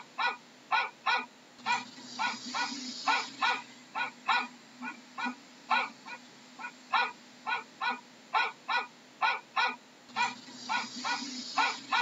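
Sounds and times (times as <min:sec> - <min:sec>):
background hiss: 0:00.0 - 0:12.0
dog barking: 0:00.2 - 0:12.0.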